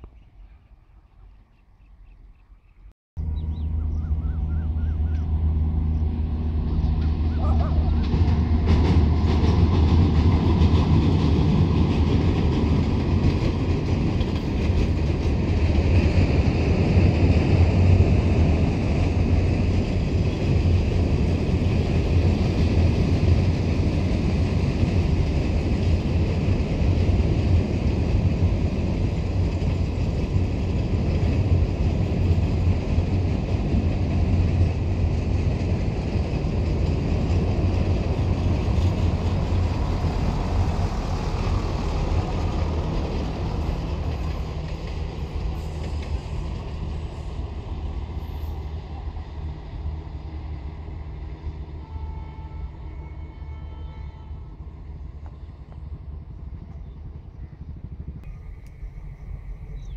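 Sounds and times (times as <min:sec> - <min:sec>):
train rumbling at speed: 0:03.2 - 0:59.9.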